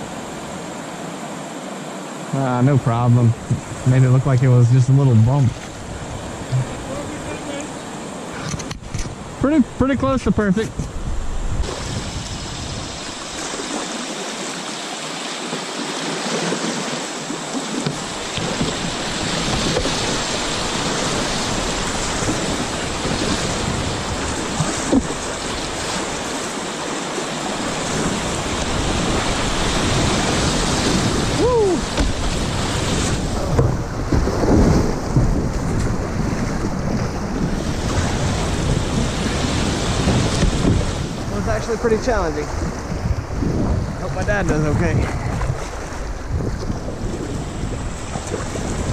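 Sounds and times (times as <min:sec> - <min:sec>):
river water rushing: 0:00.0 - 0:48.9
wind buffeting microphone: 0:03.0 - 0:13.4, 0:17.9 - 0:26.6, 0:27.4 - 0:48.9.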